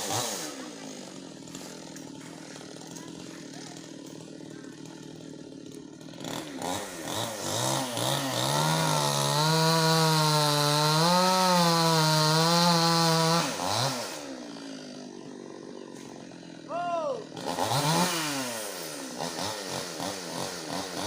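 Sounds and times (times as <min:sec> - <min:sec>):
chainsaw idling and cutting wood: 0:00.0 - 0:21.0.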